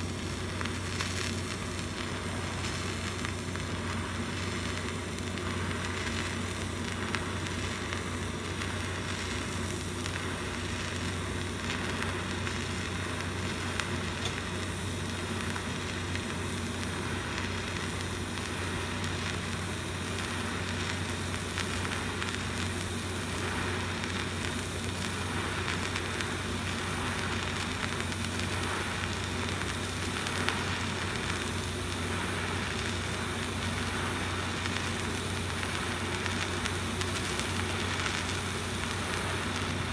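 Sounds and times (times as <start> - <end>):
welding arc sizzling hiss: 0.0 - 39.9.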